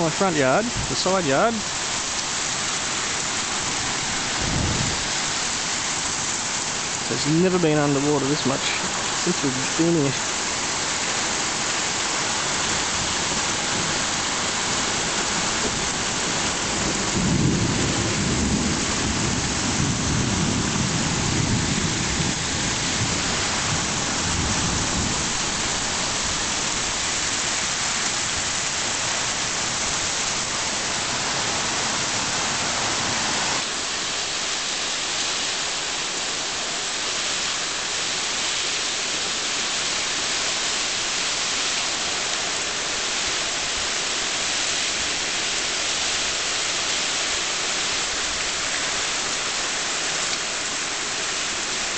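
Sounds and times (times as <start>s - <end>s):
torrential rain: 0.0s - 51.9s.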